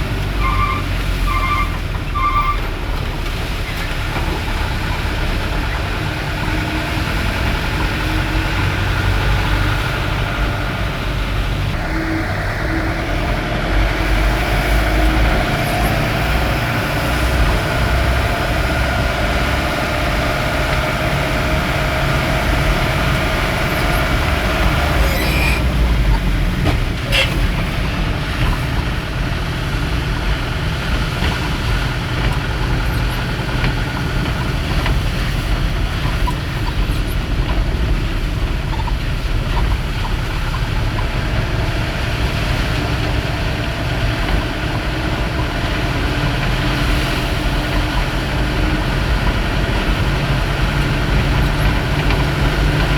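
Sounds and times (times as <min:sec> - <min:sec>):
heavy rain: 0:00.0 - 0:52.9
vehicle engine and road rumble: 0:00.0 - 0:52.9.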